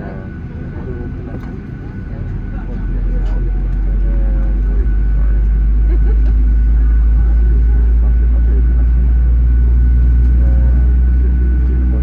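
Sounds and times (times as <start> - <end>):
aircraft cabin low rumble: 0.0 - 12.0
muffled passenger voices: 0.0 - 12.0.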